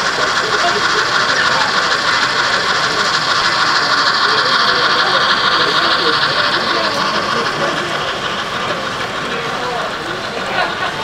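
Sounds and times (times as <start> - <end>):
faint crowd chatter: 0.0 - 11.0
model steam locomotive hissing: 0.0 - 11.0.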